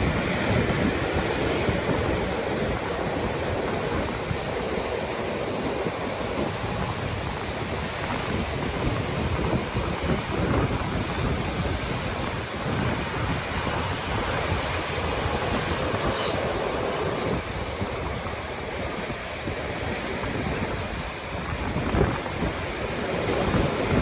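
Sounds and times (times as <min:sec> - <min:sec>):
surf breaking on shore: 0:00.0 - 0:24.0
wind buffeting microphone: 0:00.0 - 0:24.0.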